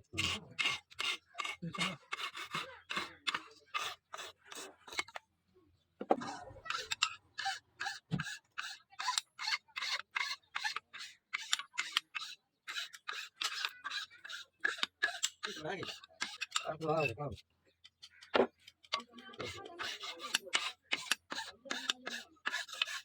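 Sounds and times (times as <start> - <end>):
scraping strokes on a knife: 0.1 - 5.2, 6.6 - 23.0.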